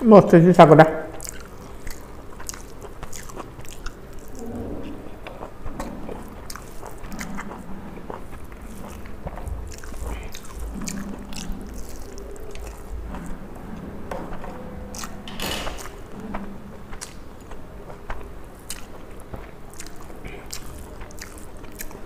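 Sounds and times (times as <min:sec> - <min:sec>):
mouth clicks and crunches: 0:01.0 - 0:22.0
wet chewing and biting: 0:01.0 - 0:22.0
fingers mixing food on steel plate: 0:01.1 - 0:22.0
soft humming with mouth closed: 0:01.1 - 0:22.0.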